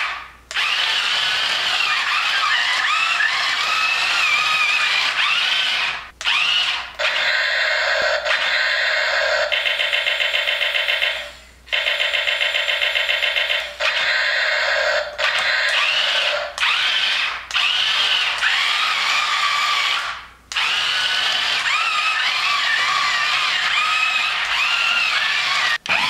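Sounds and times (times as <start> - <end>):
small electric motors whirring: 0.0 - 9.5, 13.8 - 26.0.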